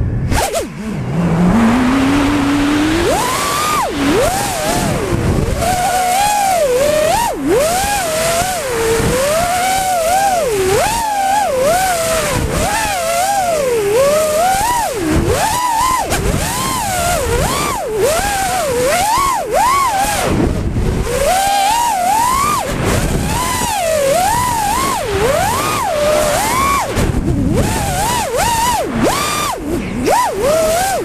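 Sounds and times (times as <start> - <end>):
quadcopter motors whining: 0.0 - 31.0
rush of air noise: 0.0 - 31.0.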